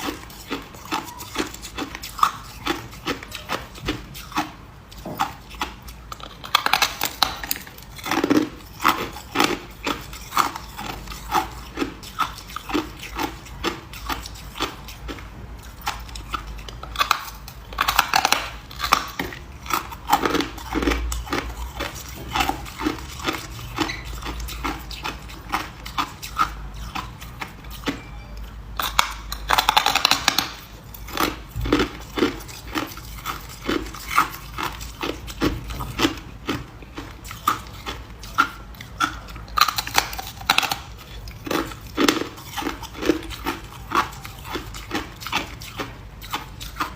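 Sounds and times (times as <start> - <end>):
person chewing ice: 0.0 - 46.9.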